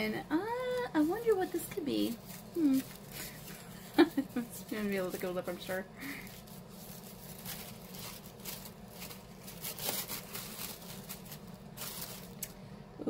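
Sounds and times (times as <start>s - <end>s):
packaging crinkling and rustling: 0.4s - 12.6s.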